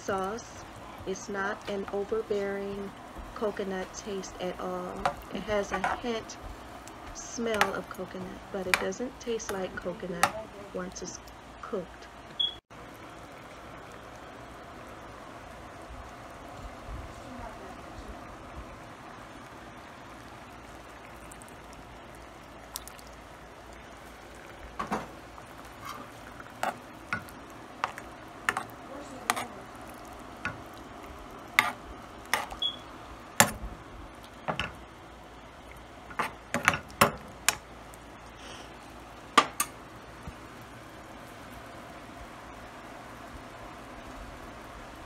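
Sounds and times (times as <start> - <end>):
steady low hiss: 0.0 - 45.0.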